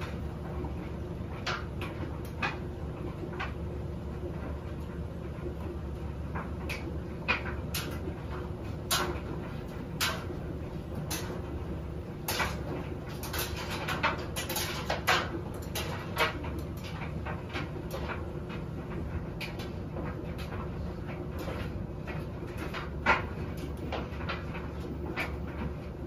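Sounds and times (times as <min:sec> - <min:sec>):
washing machine drum humming: 0:00.0 - 0:26.0.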